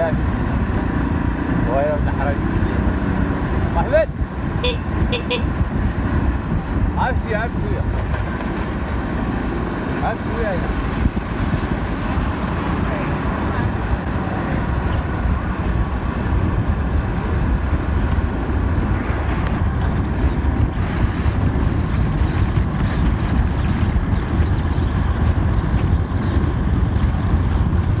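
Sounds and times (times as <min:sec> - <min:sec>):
motorcycle engine: 0:00.0 - 0:28.0
road noise: 0:00.0 - 0:28.0
wind rushing over microphone: 0:00.0 - 0:28.0.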